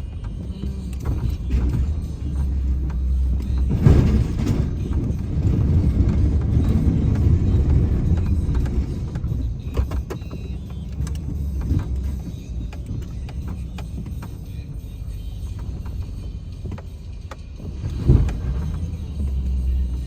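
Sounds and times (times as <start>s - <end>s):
vehicle engine rumbling: 0.0s - 20.0s
knocks and rattles: 0.2s - 14.6s, 15.5s - 20.0s.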